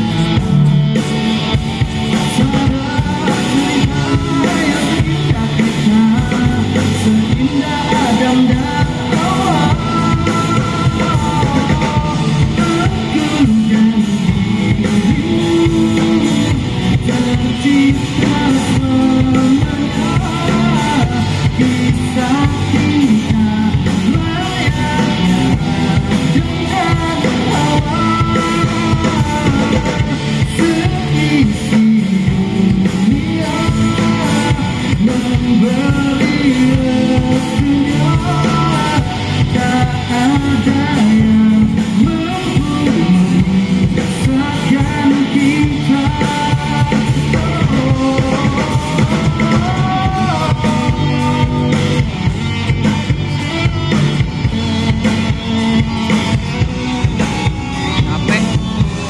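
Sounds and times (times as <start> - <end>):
bass guitar: 0.0 - 59.0
drum kit: 0.0 - 59.0
electric guitars: 0.0 - 59.0
person singing: 0.0 - 59.0.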